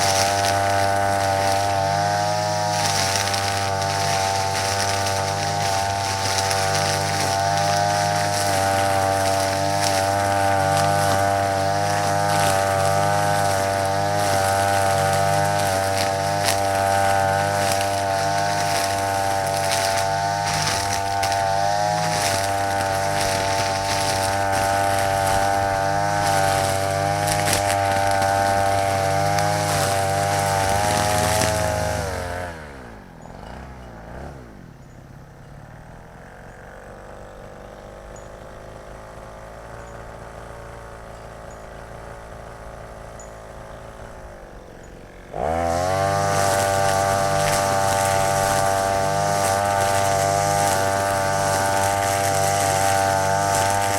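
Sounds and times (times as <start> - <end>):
brush-cutter engine revving: 0.0 - 53.9.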